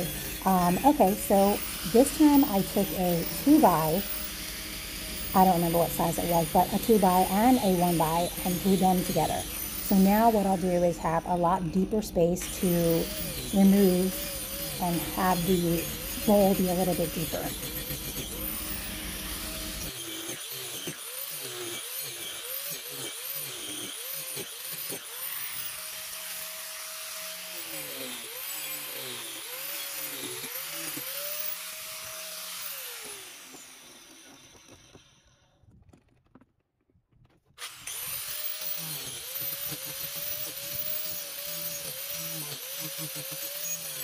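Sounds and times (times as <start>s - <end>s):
angle grinder carving wood: 0.0s - 36.4s, 37.6s - 44.0s.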